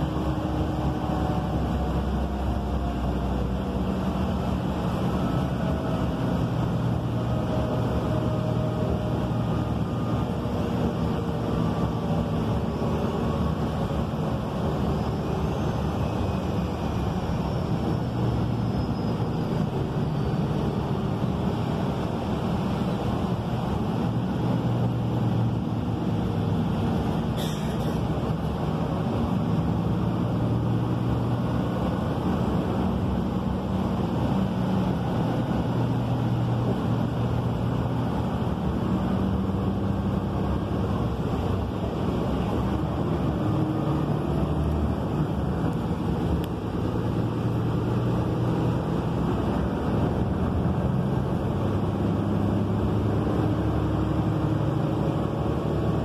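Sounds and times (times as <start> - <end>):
bus diesel engine drone: 0.0 - 56.0
road and tyre noise: 0.0 - 56.0.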